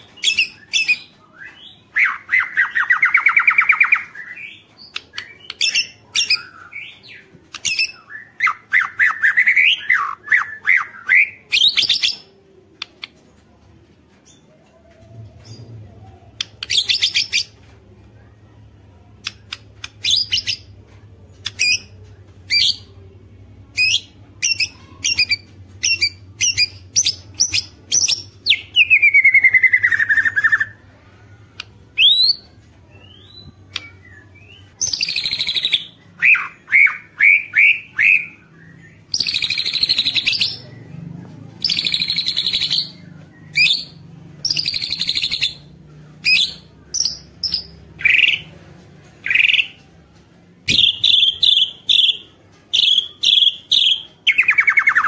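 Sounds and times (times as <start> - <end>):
faint low hum: 0.0 - 53.1.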